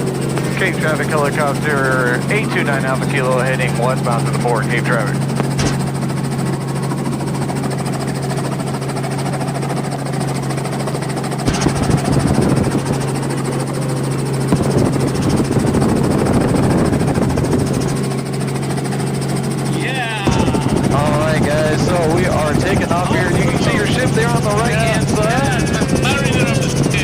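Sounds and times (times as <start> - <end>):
helicopter engine and rotor: 0.0 - 27.0.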